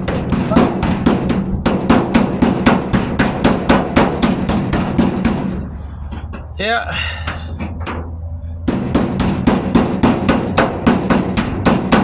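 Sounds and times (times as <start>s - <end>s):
pick hammer striking sheet metal: 0.0s - 5.6s, 7.2s - 8.1s, 8.7s - 12.0s.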